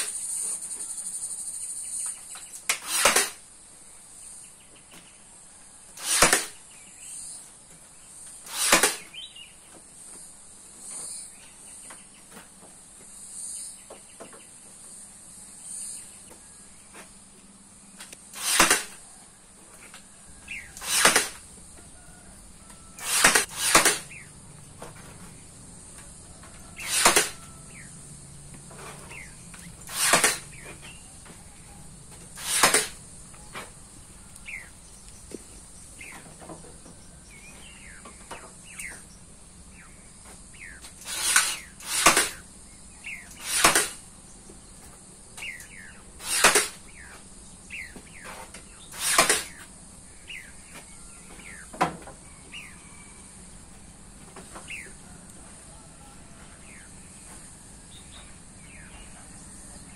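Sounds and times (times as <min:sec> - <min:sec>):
high insect-like hiss: 0:00.0 - 0:59.9.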